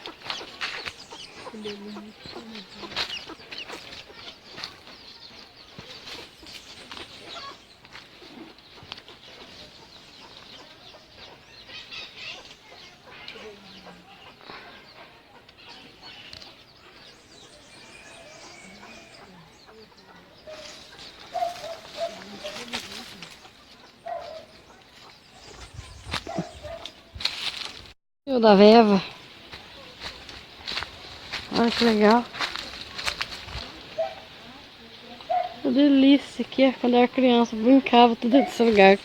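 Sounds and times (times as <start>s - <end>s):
chickens clucking: 0.0s - 27.6s, 28.6s - 39.0s.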